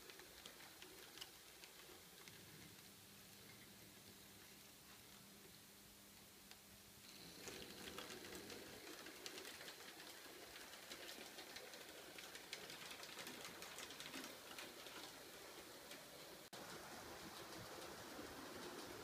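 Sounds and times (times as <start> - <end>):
model train wheels clicking: 0.0 - 4.4, 6.5 - 19.0.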